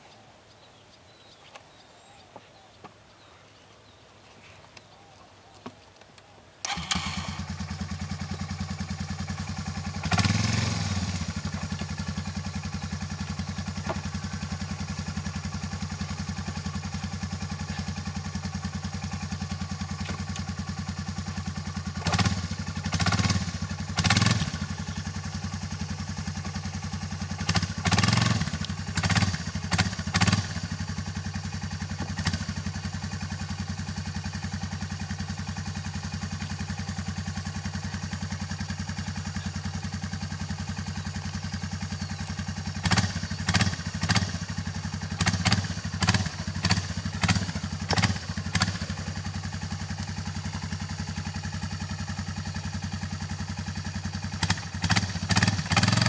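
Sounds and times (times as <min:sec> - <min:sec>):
atv engine idling: 0:04.7 - 0:56.0.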